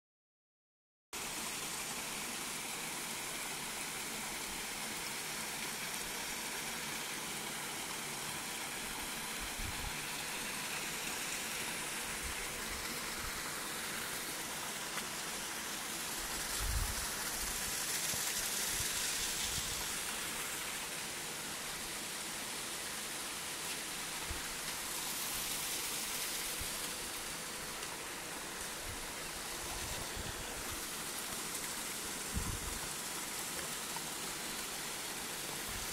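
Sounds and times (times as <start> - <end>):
flowing water rushing: 1.2 - 35.9.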